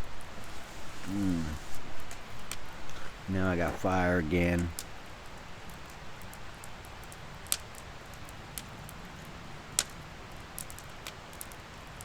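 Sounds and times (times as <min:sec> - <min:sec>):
campfire crackling and hissing: 0:00.0 - 0:12.0.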